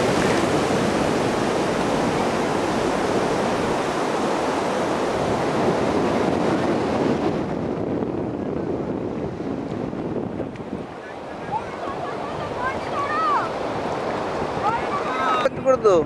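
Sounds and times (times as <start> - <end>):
waves breaking on beach: 0.0 - 16.0
wind on microphone: 0.0 - 16.0.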